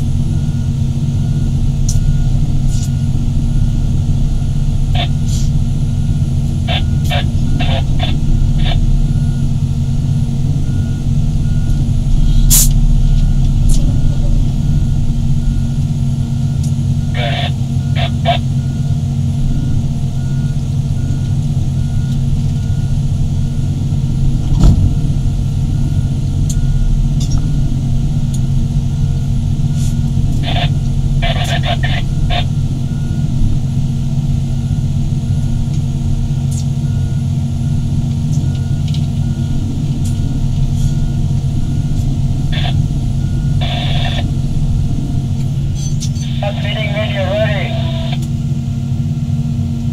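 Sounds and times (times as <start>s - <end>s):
excavator diesel engines running: 0.0s - 49.9s
reversing alarm beeping: 0.3s - 24.2s, 25.6s - 27.6s, 28.2s - 33.4s, 34.4s - 48.3s.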